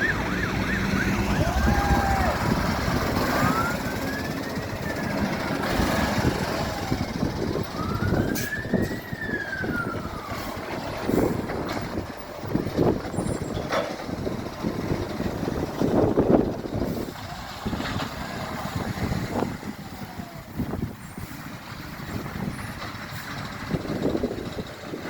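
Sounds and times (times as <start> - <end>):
garbage truck running: 0.0 - 25.0
wind noise on microphone: 1.1 - 25.0.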